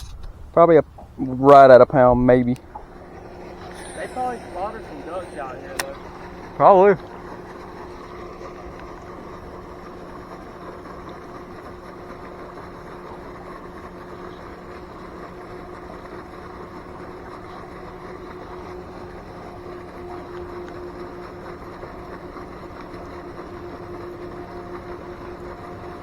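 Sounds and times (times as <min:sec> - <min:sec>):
motor hum: 0:00.0 - 0:26.0.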